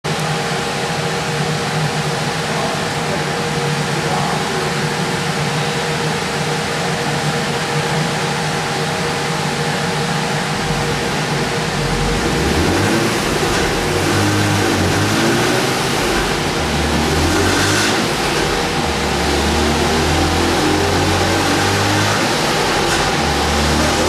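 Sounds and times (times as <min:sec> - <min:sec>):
cooling fan rushing air: 0:00.1 - 0:24.0.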